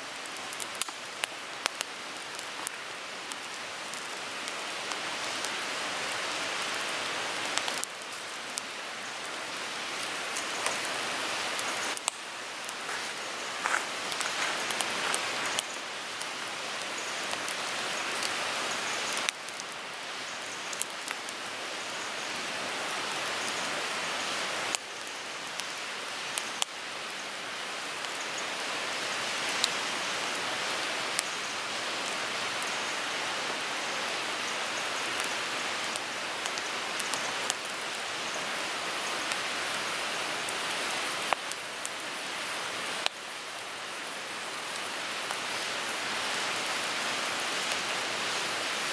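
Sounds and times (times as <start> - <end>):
wood fire crackling: 0.1 - 22.5, 24.4 - 27.2, 28.9 - 31.3, 31.9 - 42.1, 44.5 - 48.9.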